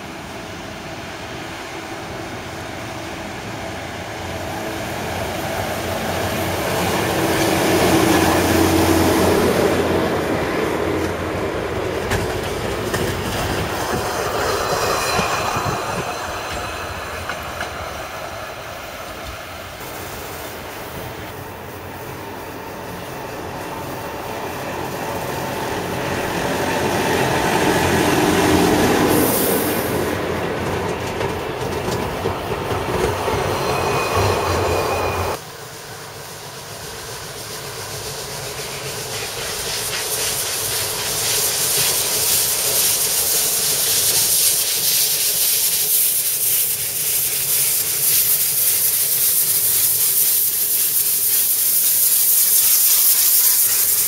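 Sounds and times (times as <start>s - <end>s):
railcar running up cog track: 0.0s - 54.0s
steam hissing from locomotive: 0.0s - 54.0s
steam locomotive working beat: 4.4s - 54.0s.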